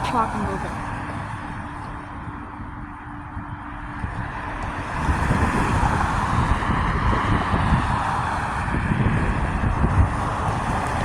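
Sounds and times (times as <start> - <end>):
vehicle passing on road: 0.0 - 11.0
wind on microphone: 0.0 - 11.0.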